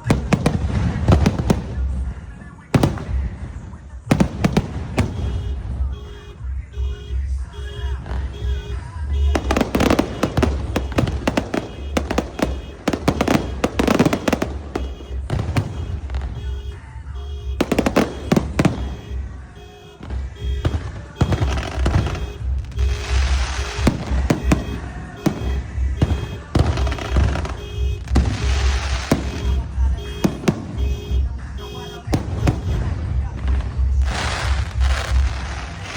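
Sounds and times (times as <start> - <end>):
fireworks crackling and popping: 0.0 - 6.8, 7.8 - 35.9
loud music with steady beat: 0.0 - 35.9.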